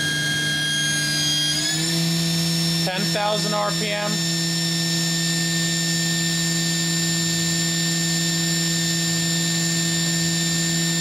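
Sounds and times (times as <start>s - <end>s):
machine spindle whine: 0.0s - 11.0s.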